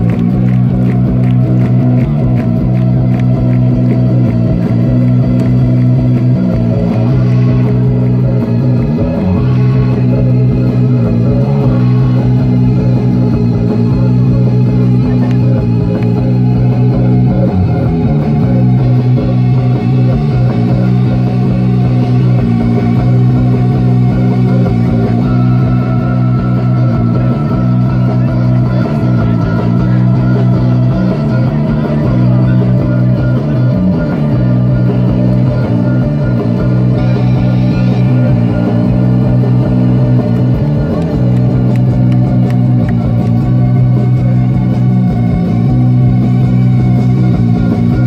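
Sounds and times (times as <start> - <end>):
droning bass line: 0.0 - 48.0
electric guitar: 0.0 - 48.0
live rock band: 0.0 - 48.0.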